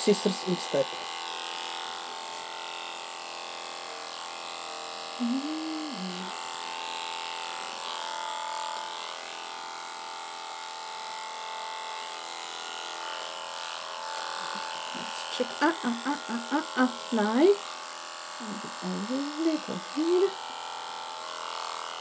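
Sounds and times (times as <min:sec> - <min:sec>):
electric clipper humming: 0:00.0 - 0:22.0.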